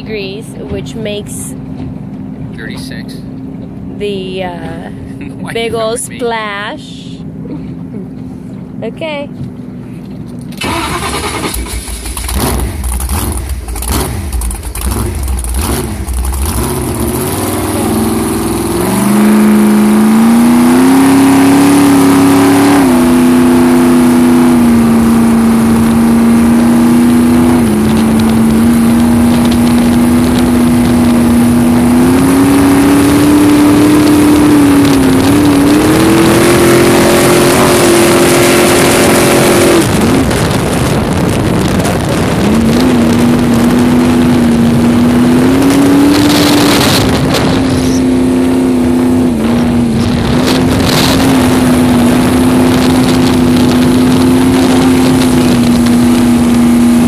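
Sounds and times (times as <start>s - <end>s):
boat engine revving: 0.0s - 57.0s.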